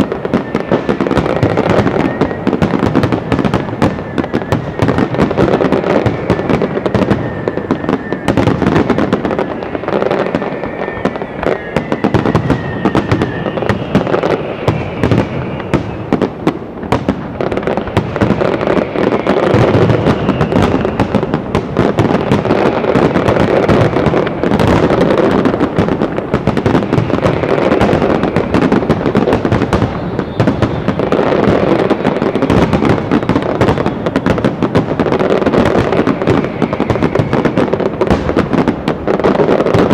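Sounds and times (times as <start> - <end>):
fireworks bursts and crackling: 0.0 - 39.9
fireworks whistles: 0.0 - 39.9.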